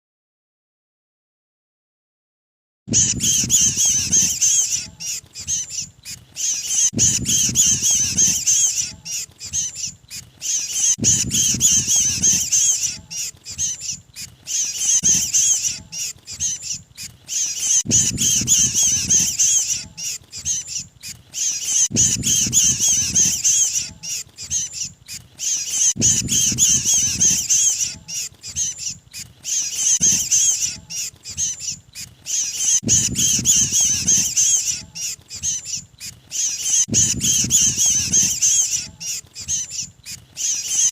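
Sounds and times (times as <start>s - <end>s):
squeaky bird distress calls: 2.9s - 40.9s.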